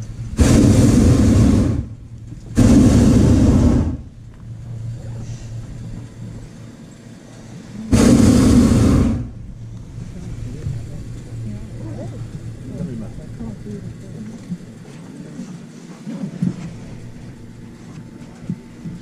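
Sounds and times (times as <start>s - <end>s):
low steady rumble: 0.0s - 19.0s
propane burner blasts: 0.0s - 19.0s.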